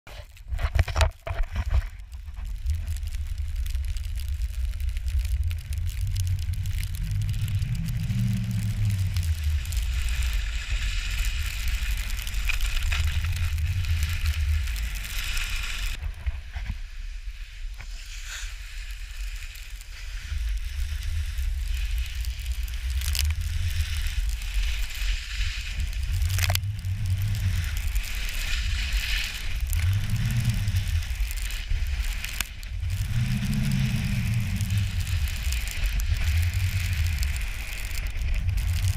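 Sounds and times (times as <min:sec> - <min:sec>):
skis scraping over snow: 0:00.1 - 0:38.9
wind rumble on microphone: 0:00.1 - 0:38.9.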